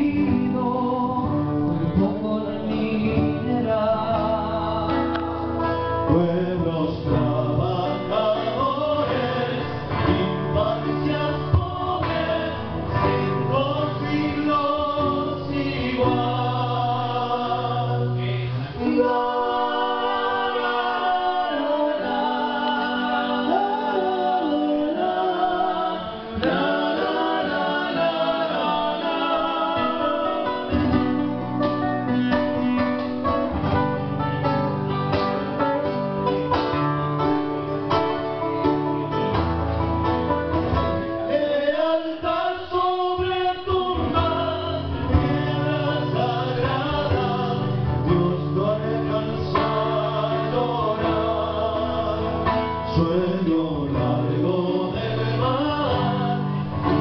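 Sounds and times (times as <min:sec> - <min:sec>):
men singing together: 0:00.0 - 0:33.5, 0:41.1 - 0:57.0
strummed acoustic guitars: 0:00.0 - 0:57.0.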